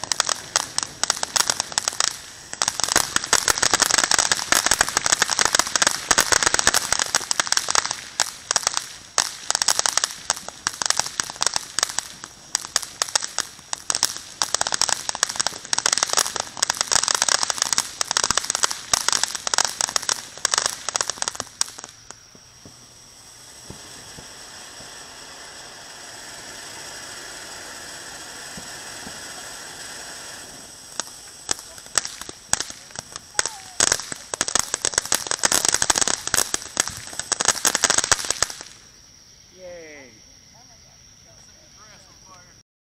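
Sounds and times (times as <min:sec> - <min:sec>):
firework fountain hissing: 0:00.0 - 0:42.6
fireworks crackling: 0:00.0 - 0:42.6.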